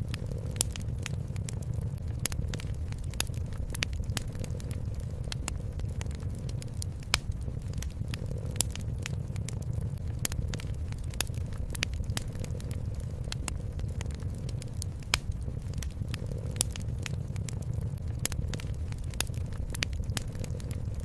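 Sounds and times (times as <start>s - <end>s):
continuous low rumble: 0.0s - 21.0s
wood fire crackling: 0.0s - 21.0s.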